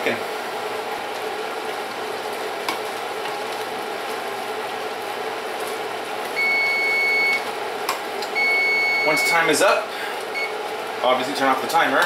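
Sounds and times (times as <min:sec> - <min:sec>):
pot boiling and bubbling: 0:00.0 - 0:12.0.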